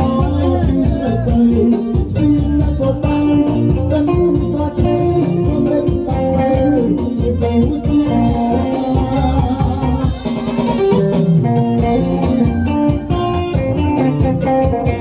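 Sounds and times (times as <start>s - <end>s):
bass: 0.0s - 15.0s
electric guitar melody: 0.0s - 15.0s
steady beat: 0.0s - 15.0s.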